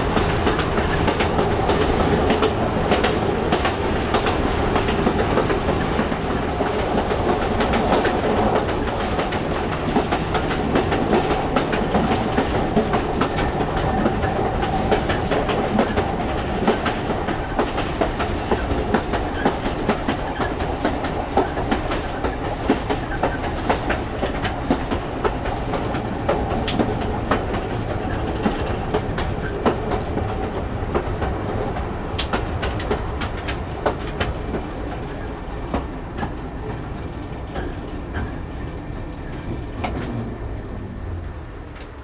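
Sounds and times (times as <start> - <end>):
wheels clicking over rail joints: 0.0 - 40.4
train rumbling: 0.0 - 42.0.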